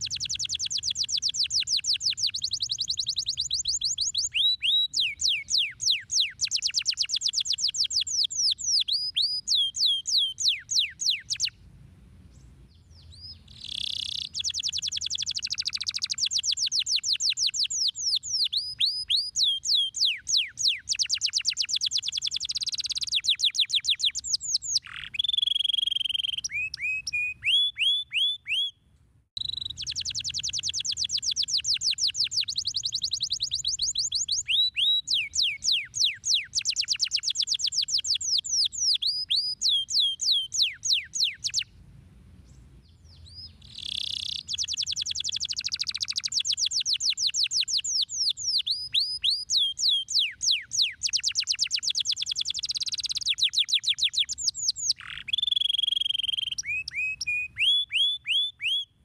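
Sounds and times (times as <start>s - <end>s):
canary singing trills: 0.0s - 11.6s, 12.7s - 28.8s, 29.4s - 41.8s, 42.5s - 59.0s.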